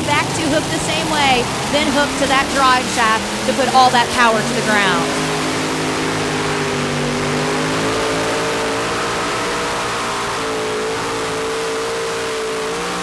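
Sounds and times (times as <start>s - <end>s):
boat engines running flat out: 0.0s - 13.0s.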